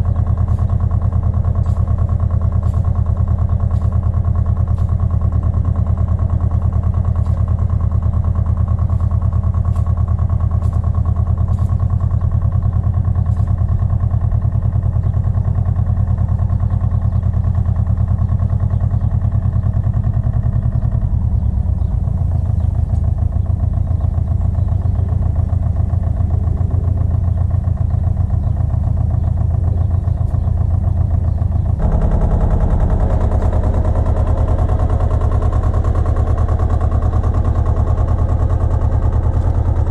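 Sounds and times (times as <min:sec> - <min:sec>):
walking tractor engine running: 0:00.0 - 0:39.9.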